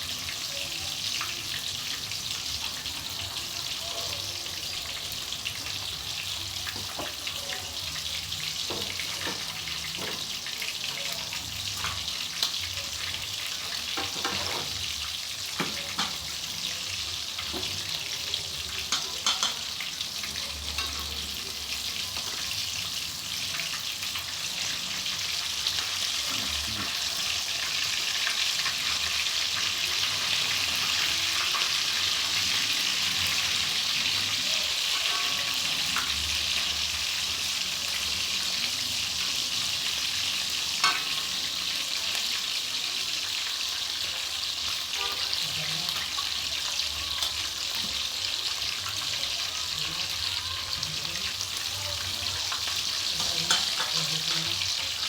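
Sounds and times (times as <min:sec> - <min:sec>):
chicken frying in hot oil: 0:00.0 - 0:55.0.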